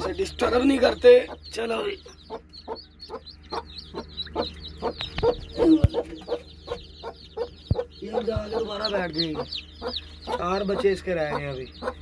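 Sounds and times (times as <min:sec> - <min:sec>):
chicks peeping: 0:00.0 - 0:12.0
hen clucking low: 0:00.0 - 0:12.0.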